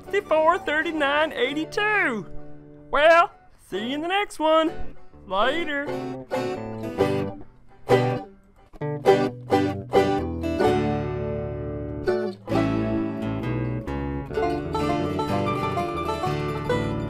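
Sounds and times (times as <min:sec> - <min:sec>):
plucked acoustic guitar: 0:00.0 - 0:03.5, 0:04.1 - 0:17.0.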